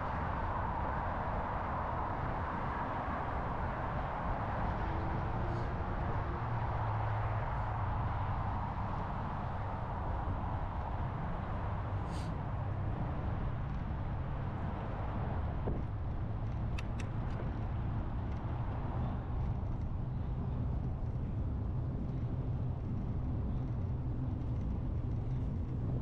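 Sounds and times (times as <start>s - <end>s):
rolling road noise: 0.0s - 26.0s
wind rumble on microphone: 0.0s - 26.0s.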